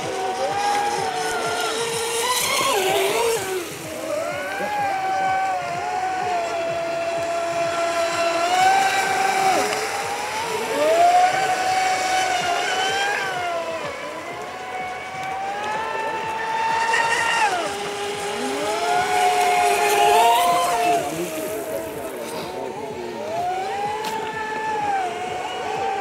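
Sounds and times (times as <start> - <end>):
model boat motor whining: 0.0 - 26.0.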